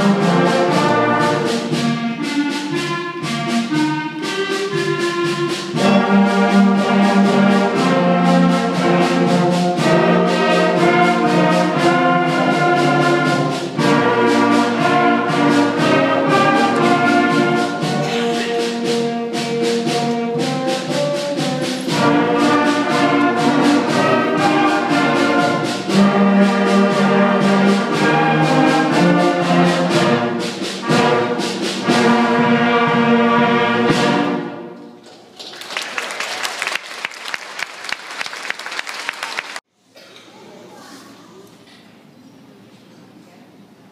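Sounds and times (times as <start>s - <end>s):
school concert band playing: 0.0s - 39.6s.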